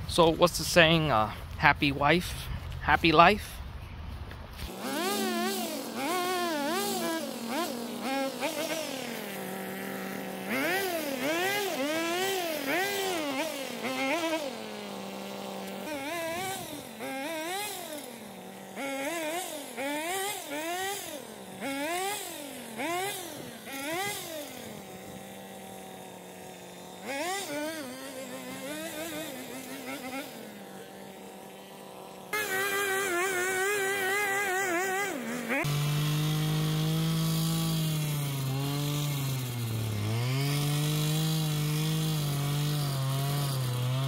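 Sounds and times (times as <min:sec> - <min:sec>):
small gas engine revving: 0:04.4 - 0:44.0.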